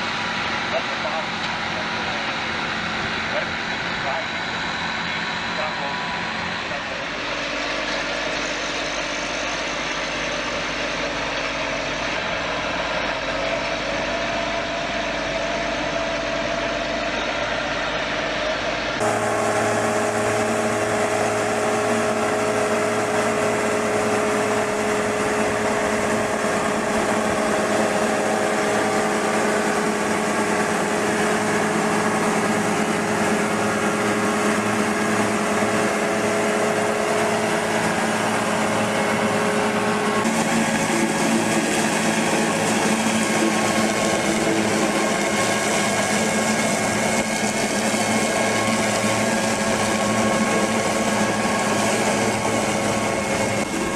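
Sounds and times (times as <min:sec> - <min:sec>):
machinery whining: 0:00.0 - 0:53.9.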